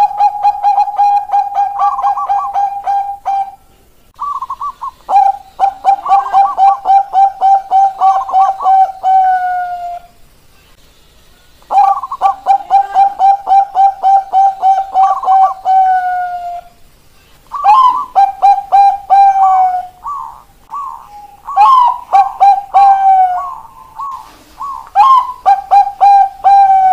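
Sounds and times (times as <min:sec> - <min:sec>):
dove cooing: 0:00.0 - 0:10.2, 0:11.7 - 0:16.8, 0:17.5 - 0:26.9.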